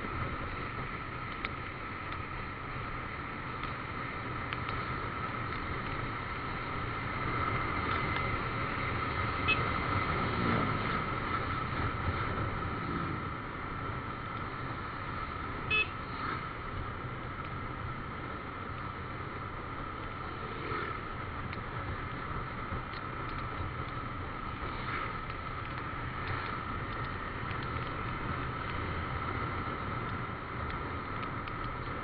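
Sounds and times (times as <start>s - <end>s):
motorcycle running and wind noise: 0.0s - 32.0s.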